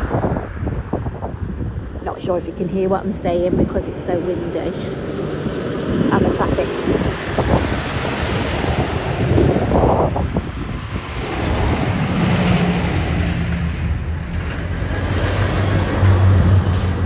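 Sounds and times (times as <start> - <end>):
road traffic noise: 0.0 - 17.0
vehicle engine hum: 0.0 - 17.0
wind buffeting microphone: 0.0 - 17.0.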